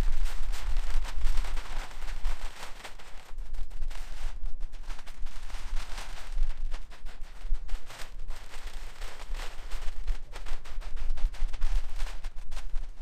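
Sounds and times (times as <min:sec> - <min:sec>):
plastic sheeting crackling: 0:00.0 - 0:13.0.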